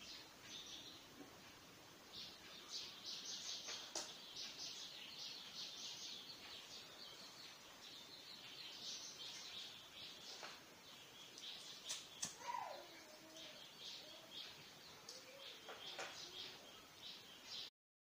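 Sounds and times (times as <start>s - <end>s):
small birds chirping: 0.0s - 17.7s.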